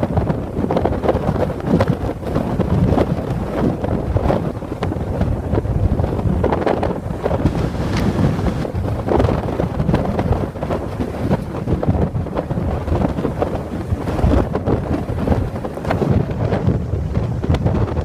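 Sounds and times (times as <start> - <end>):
strong gusty wind on microphone: 0.0 - 18.0.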